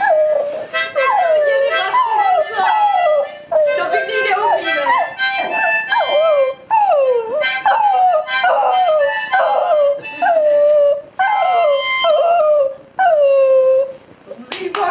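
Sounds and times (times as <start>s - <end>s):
dog howling: 0.0s - 5.2s, 5.9s - 14.0s
harmonica playing: 0.0s - 13.9s.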